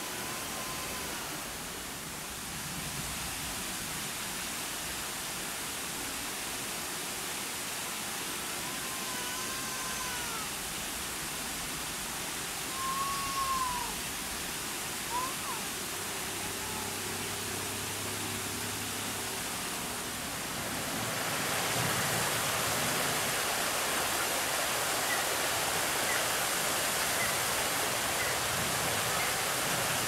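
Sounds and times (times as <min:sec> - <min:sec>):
open-air background hiss: 0:00.0 - 0:30.0.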